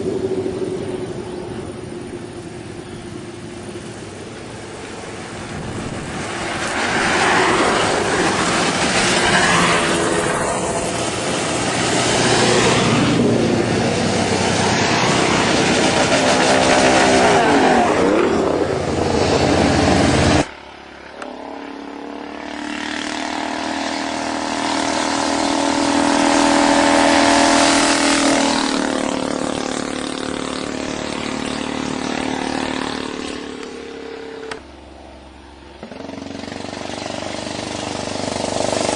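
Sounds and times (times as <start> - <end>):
racing motorcycles passing full throttle: 0.0 - 38.9.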